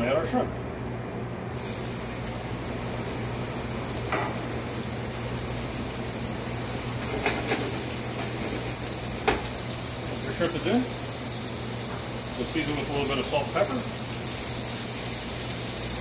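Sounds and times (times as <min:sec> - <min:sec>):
shrimp sizzling in a frying pan: 0:01.6 - 0:16.0.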